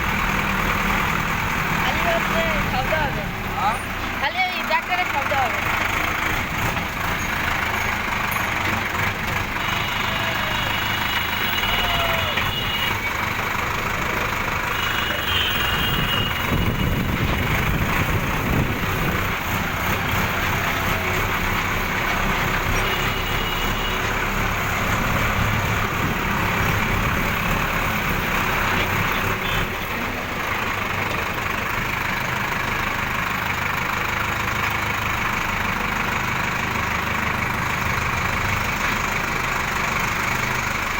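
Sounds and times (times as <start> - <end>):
heavy vehicle engine running: 0.0 - 40.9.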